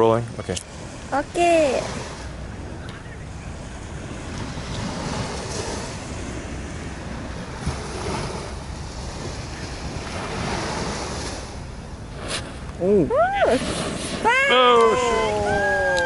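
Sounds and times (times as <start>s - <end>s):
surf washing on beach: 0.0s - 16.0s
wind on microphone: 0.0s - 16.0s.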